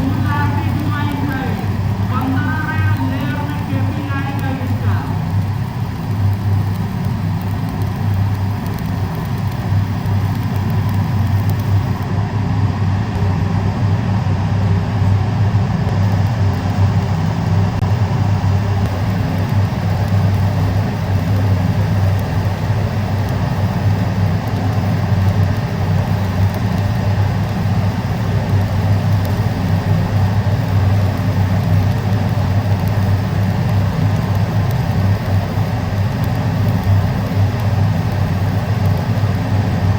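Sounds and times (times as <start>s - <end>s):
welding equipment hum and hiss: 0.0s - 39.9s.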